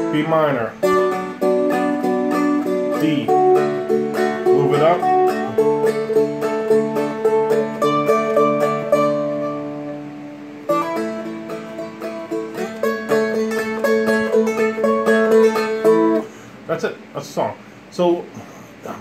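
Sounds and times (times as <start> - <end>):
guitar clawhammer picking: 0.0 - 16.6.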